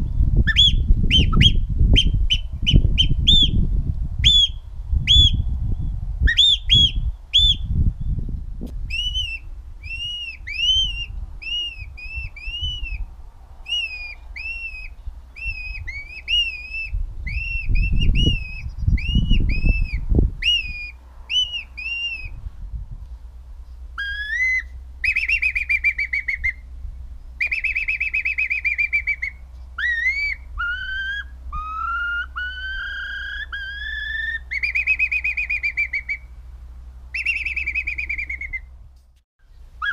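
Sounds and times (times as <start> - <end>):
finger whistling bird calls: 0.5 - 3.6, 4.2 - 7.7, 8.9 - 13.0, 13.7 - 22.4, 24.0 - 26.6, 27.4 - 36.3, 37.2 - 38.7.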